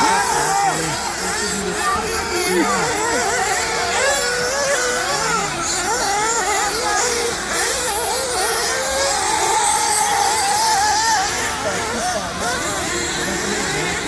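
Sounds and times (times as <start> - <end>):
rc buggy engines whining: 0.0 - 14.0.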